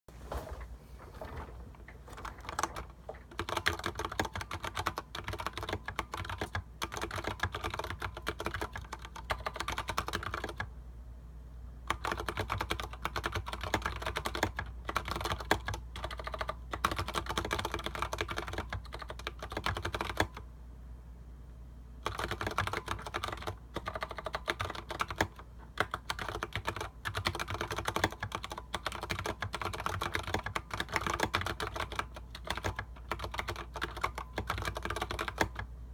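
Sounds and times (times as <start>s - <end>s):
mechanical keyboard typing: 2.1s - 10.7s, 11.9s - 20.4s, 22.0s - 35.7s.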